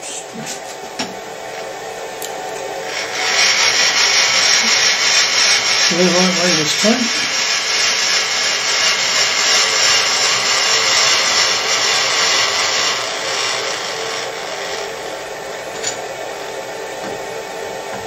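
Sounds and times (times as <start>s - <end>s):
milling machine whirring: 0.8s - 18.0s.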